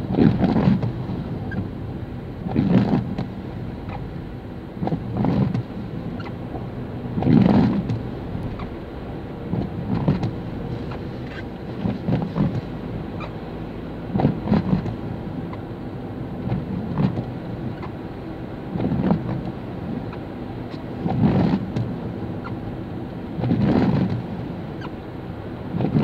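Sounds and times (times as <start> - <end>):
tyre and engine noise: 0.0 - 26.0
windscreen wipers sweeping: 0.0 - 26.0.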